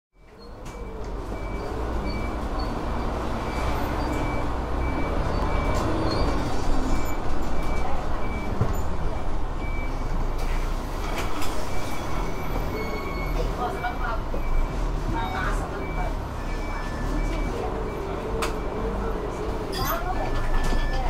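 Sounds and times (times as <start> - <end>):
bus engine rumble: 0.2 - 21.0
road noise: 0.2 - 21.0.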